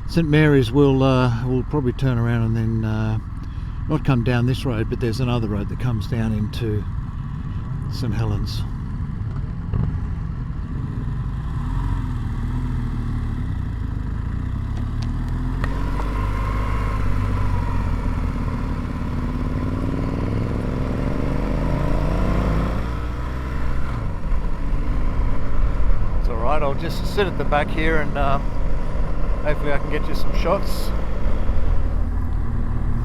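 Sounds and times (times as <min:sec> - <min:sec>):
low wind rumble: 0:00.0 - 0:12.3, 0:15.4 - 0:33.0
motorcycle engine accelerating: 0:00.0 - 0:33.0.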